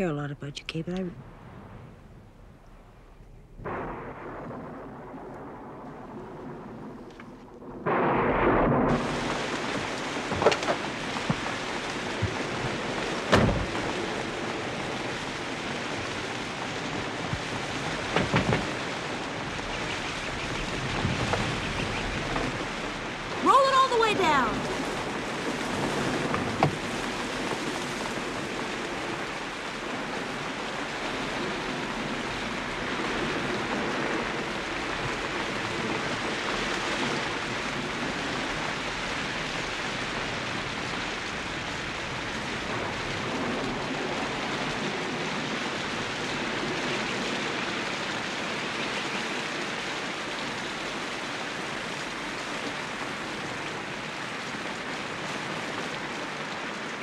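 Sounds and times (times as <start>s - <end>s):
rain pouring on a car: 3.6s - 57.0s.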